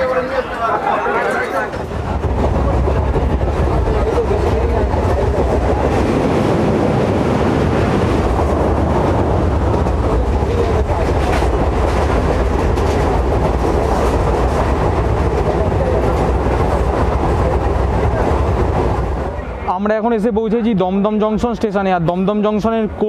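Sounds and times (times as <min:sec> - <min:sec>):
train wheels rumbling on track: 0:00.0 - 0:22.8.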